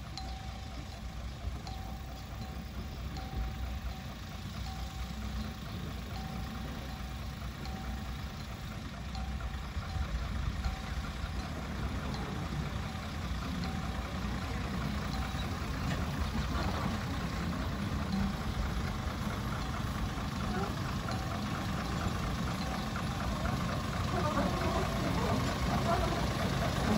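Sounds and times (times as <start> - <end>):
locomotive engine running: 0.0 - 26.9.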